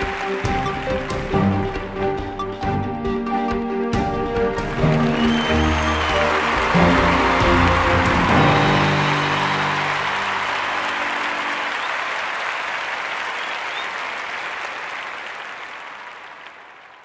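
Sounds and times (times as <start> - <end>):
audience applause: 0.0 - 2.9, 4.2 - 17.0.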